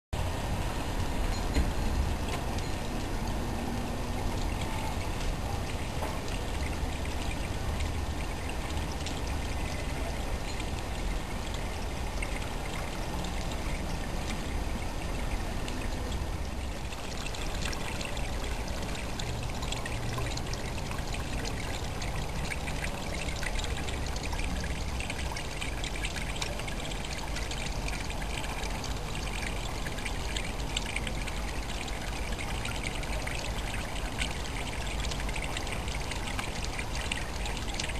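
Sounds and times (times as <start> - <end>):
rainwater trickling down rain chain: 0.2 - 37.9.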